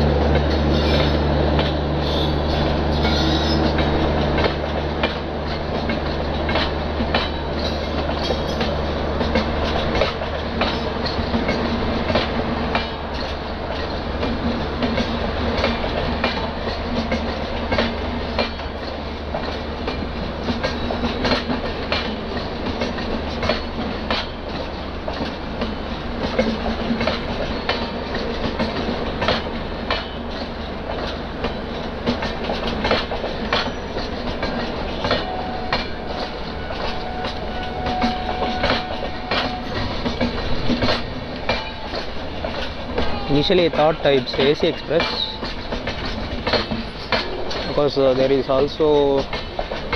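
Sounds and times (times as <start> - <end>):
train wheels rumbling on rail: 0.0 - 49.9
wheels clickety-clack on rail joints: 0.0 - 49.9.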